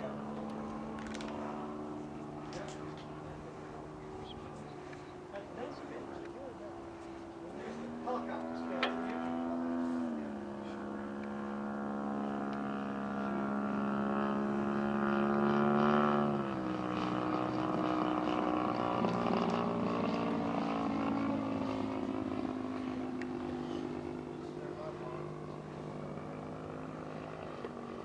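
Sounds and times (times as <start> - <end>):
model airplane engine and propeller: 0.0 - 28.0.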